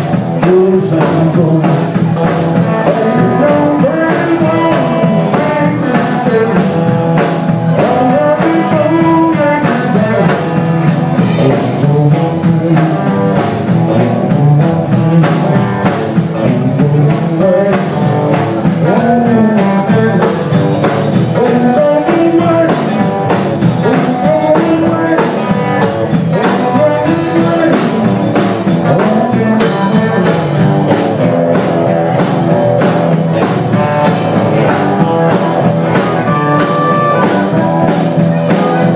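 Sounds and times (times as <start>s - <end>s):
live band playing amplified music: 0.0s - 38.9s.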